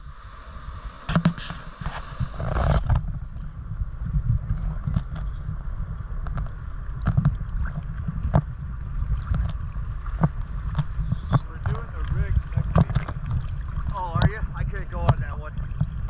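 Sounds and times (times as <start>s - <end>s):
sea water sloshing: 0.4s - 16.0s.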